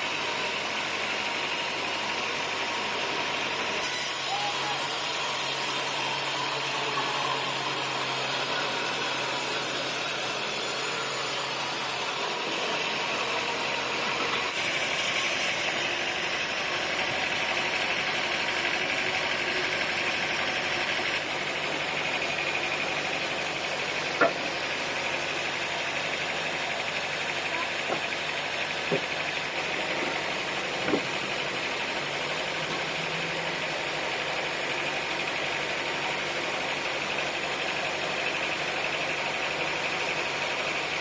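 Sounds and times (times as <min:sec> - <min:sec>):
sawmill machinery droning: 0:00.0 - 0:41.0.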